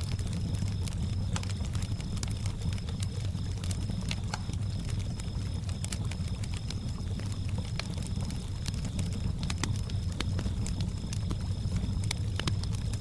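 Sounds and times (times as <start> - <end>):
campfire crackling and popping: 0.0 - 13.0
crickets chirping: 0.0 - 13.0.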